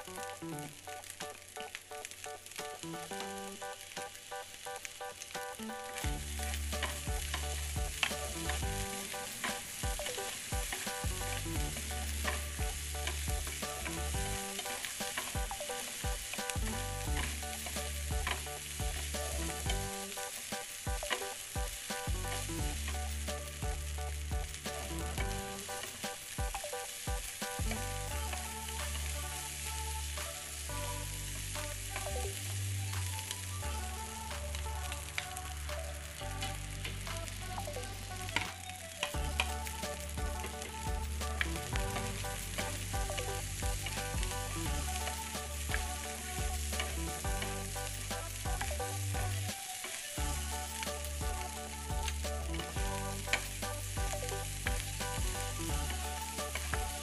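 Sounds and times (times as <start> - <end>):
rice sizzling in hot oil: 0.0 - 57.0.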